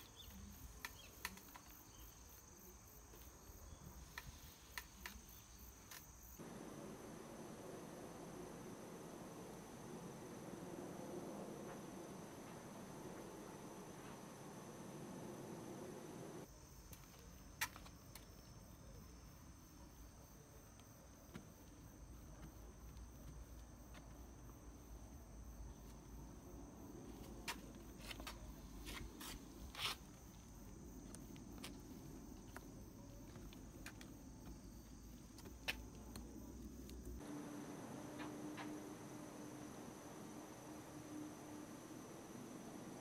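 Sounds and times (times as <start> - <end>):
faint high whine: 0.0 - 43.0.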